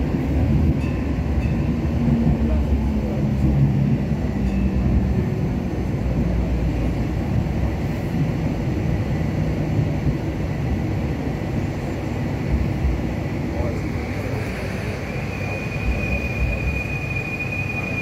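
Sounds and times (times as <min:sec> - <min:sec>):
tram motors and wheels rumbling: 0:00.0 - 0:18.0.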